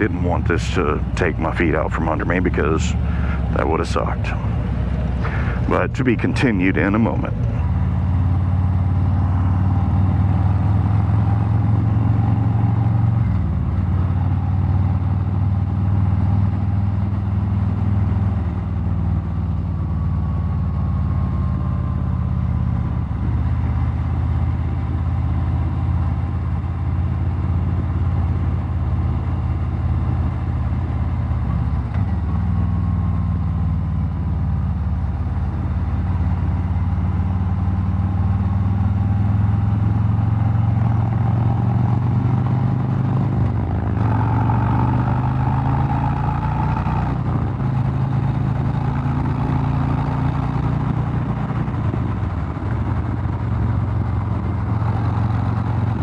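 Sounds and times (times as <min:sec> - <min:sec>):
motorcycle engine at road speed: 0:00.0 - 0:56.0.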